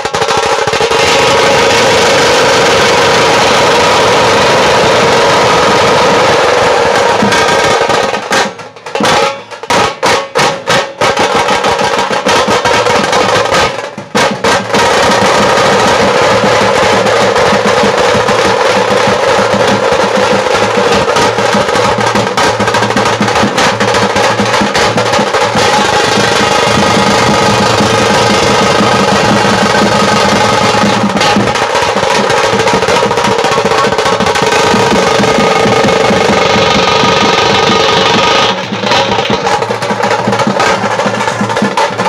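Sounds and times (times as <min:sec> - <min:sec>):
drum roll with thin sticks: 0:00.0 - 0:42.0.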